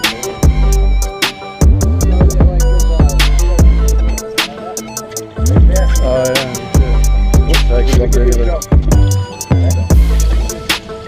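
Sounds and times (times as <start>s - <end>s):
deep bass: 0.0s - 4.3s, 5.4s - 10.7s
background music with a beat: 0.0s - 11.0s.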